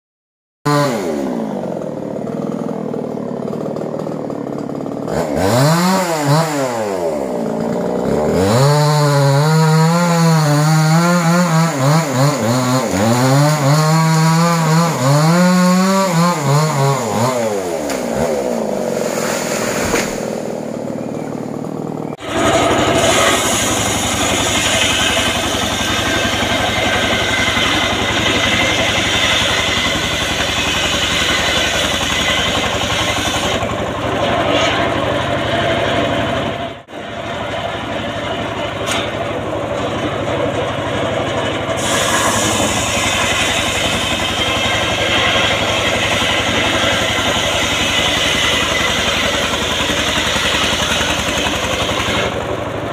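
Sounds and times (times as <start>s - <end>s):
chainsaw cutting wood: 0.7s - 52.9s
sawmill engine running: 0.7s - 52.9s.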